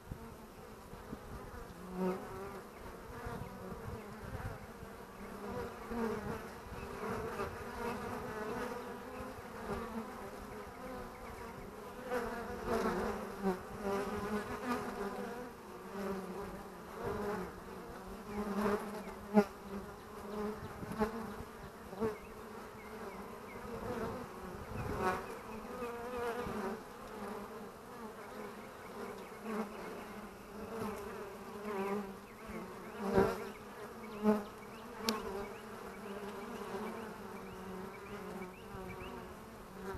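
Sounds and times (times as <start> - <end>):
honeybees buzzing: 0.0 - 39.9
single bee buzzing close by: 0.0 - 39.9.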